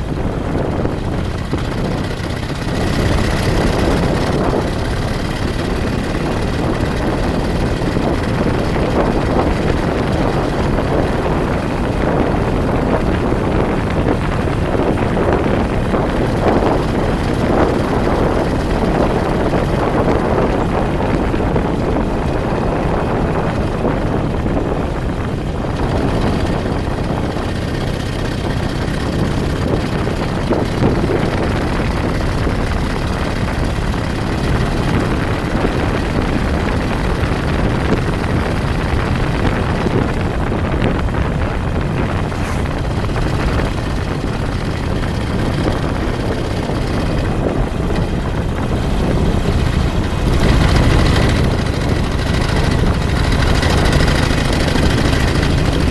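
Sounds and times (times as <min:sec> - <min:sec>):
moving vehicle rumble: 0:00.0 - 0:55.9
wind buffeting microphone: 0:00.0 - 0:55.9.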